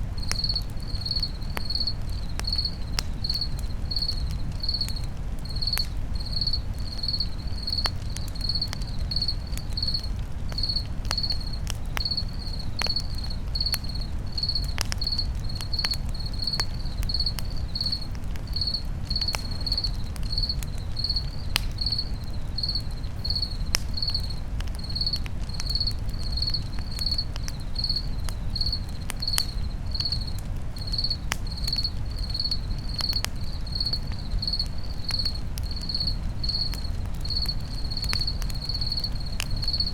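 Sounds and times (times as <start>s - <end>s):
campfire crackling and popping: 0.0s - 39.9s
cricket chirping: 0.2s - 39.9s.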